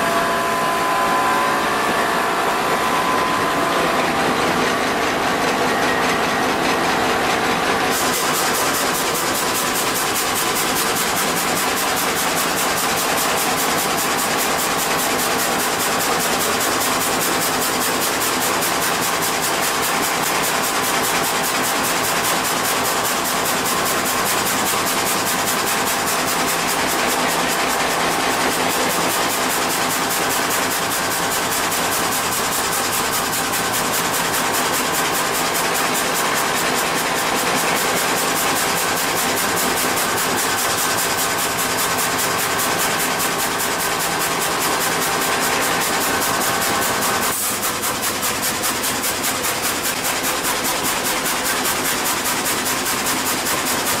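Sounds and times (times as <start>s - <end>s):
sawmill machine running: 0.0s - 54.0s.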